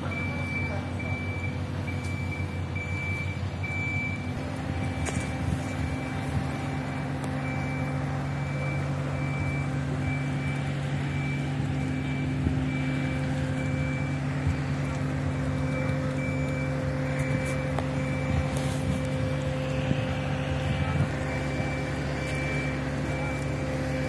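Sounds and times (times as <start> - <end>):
high warning beeper: 0.0 - 14.6, 15.6 - 24.0
lifting machinery engine running: 0.0 - 24.0.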